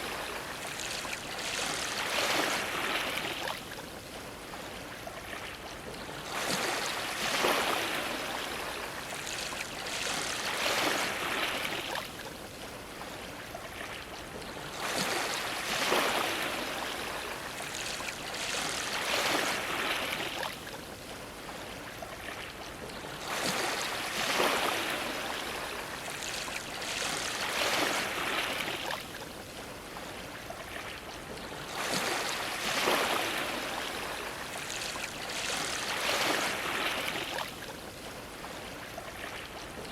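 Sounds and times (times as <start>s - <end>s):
ocean waves washing against a dock: 0.0s - 39.9s.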